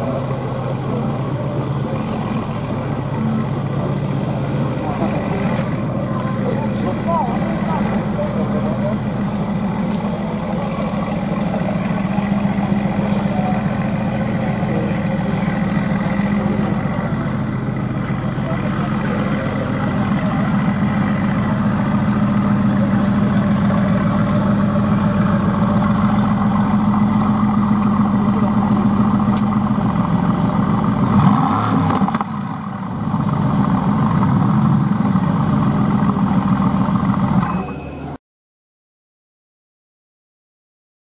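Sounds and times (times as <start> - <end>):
car engine idling and revving: 0.0 - 38.2.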